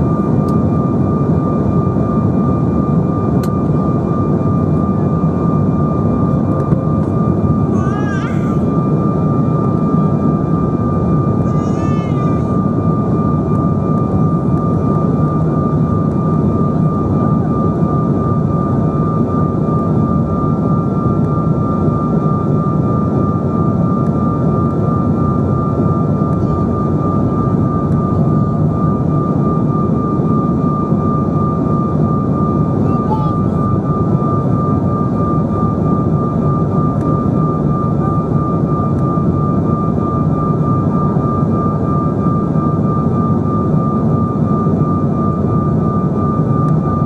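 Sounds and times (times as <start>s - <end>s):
airliner cabin engine noise: 0.0s - 47.0s
steady whine: 0.0s - 47.0s.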